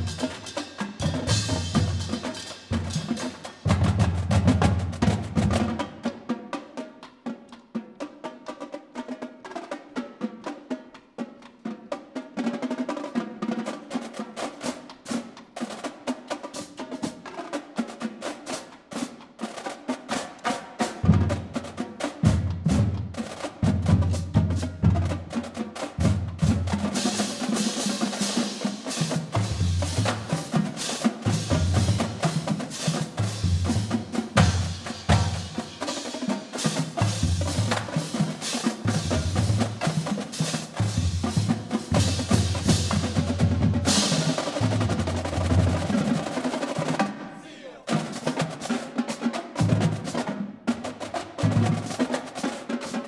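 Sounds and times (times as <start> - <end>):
snare drum strokes: 0.0 - 53.0.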